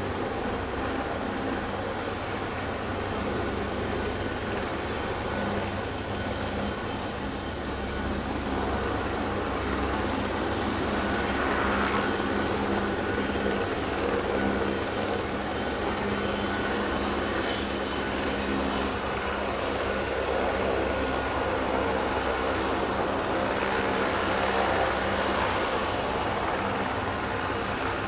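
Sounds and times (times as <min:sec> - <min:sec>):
helicopter turbine and rotor: 0:00.0 - 0:28.0.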